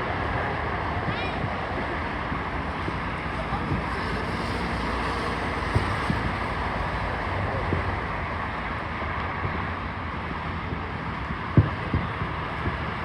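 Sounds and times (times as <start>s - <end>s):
outdoor rumble: 0.0s - 13.0s
wind buffeting microphone: 0.0s - 13.0s
distant fireworks booms: 0.9s - 8.6s, 9.3s - 13.0s.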